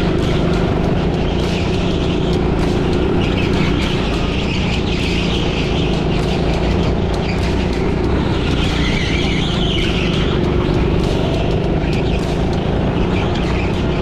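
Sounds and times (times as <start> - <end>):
go-kart engine running: 0.0 - 14.0
tyre and track hiss: 0.0 - 14.0.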